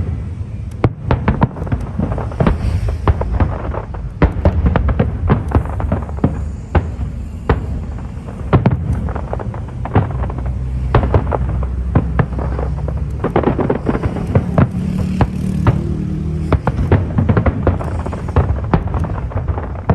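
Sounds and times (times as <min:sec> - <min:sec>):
fireworks bursting: 0:00.0 - 0:19.9
low rumble: 0:00.0 - 0:19.9.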